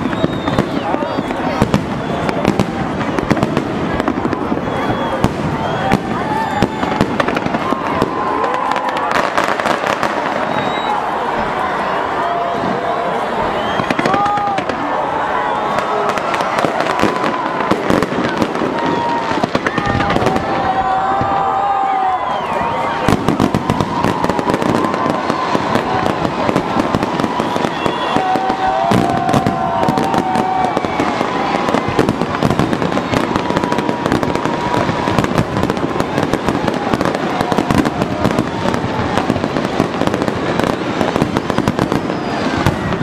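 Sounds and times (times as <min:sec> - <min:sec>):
fireworks crackling: 0:00.0 - 0:43.0.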